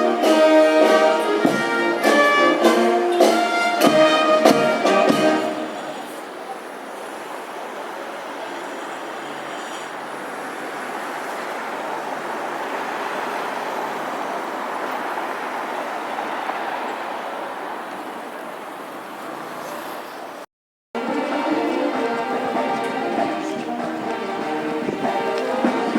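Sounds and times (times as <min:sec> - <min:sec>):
road traffic rushing: 0:00.0 - 0:25.9.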